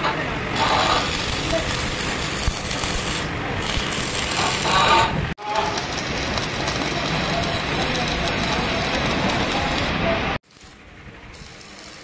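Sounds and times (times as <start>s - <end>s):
arc welding crackle and sizzle: 0.5s - 12.0s.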